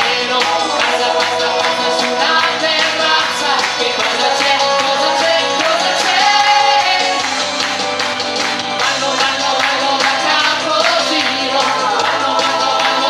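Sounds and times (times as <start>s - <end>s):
women singing backing vocals: 0.0s - 7.3s, 9.2s - 13.0s
man singing lead: 0.0s - 7.4s, 8.8s - 13.0s
pop band instrumental: 0.0s - 13.0s.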